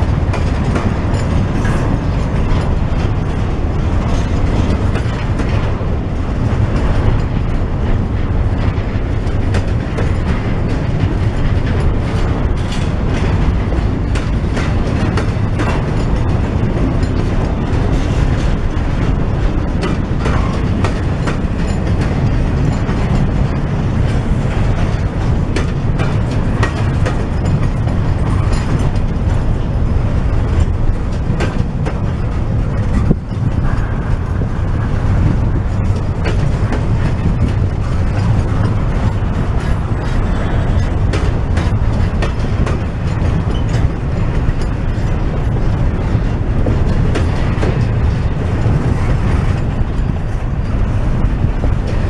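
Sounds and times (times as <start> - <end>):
freight train rumbling: 0.0 - 52.0
wheels clicking over rail joints: 0.0 - 52.0.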